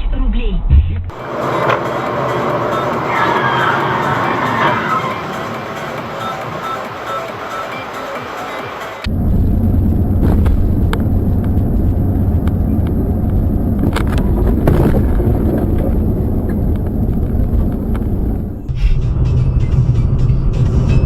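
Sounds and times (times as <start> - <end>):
motor vehicle running: 0.7 - 21.0.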